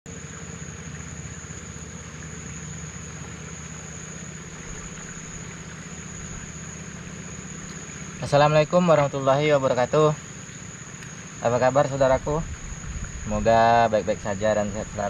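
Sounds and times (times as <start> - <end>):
high-pitched insect drone: 0.1 - 15.0
small engine idling: 0.1 - 15.0.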